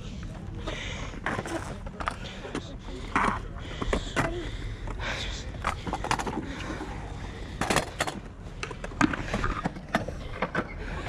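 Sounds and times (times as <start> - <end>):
scooter wheels rumbling on concrete: 0.3 - 11.0.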